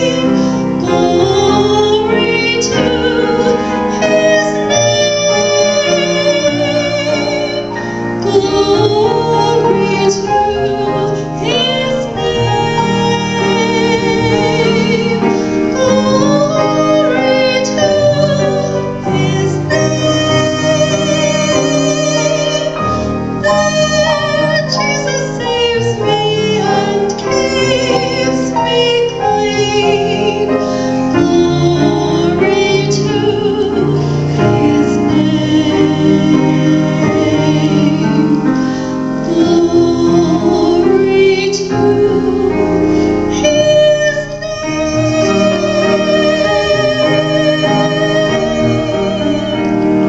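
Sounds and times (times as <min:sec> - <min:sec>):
piano accompaniment: 0:00.0 - 0:50.0
woman singing with vibrato: 0:00.0 - 0:50.0.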